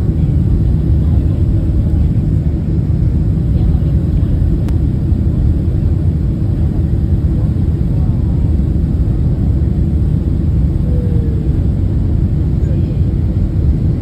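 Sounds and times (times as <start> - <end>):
airliner engine rumble in cabin: 0.0 - 14.0.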